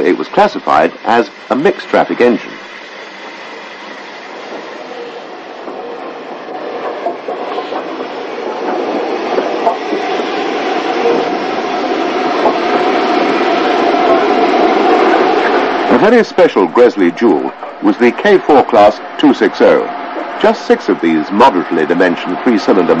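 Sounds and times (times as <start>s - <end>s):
steam train running: 0.0s - 23.0s.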